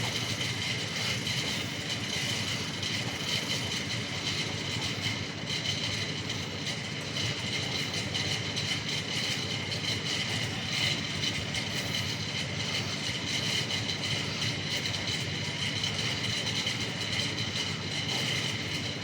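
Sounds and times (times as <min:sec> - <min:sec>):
washing machine running: 0:00.0 - 0:19.0.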